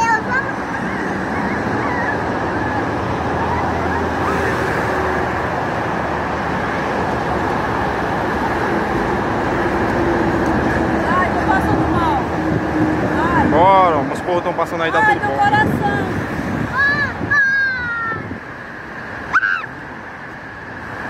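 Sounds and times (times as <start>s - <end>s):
heavy road traffic: 0.0s - 21.0s.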